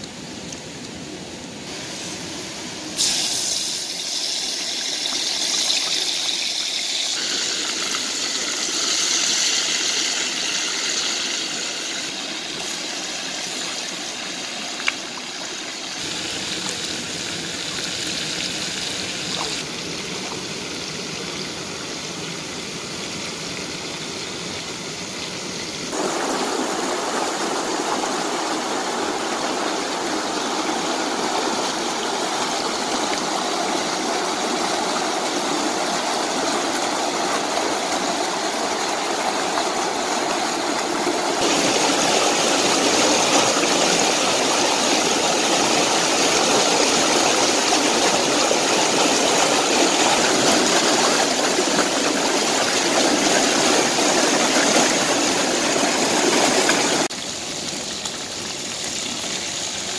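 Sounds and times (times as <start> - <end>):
stream water rushing over rocks: 3.7 - 59.9.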